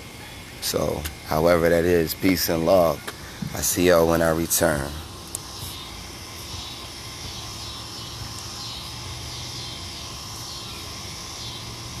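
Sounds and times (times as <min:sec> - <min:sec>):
even hiss: 0:00.0 - 0:12.0
low hum: 0:00.0 - 0:12.0.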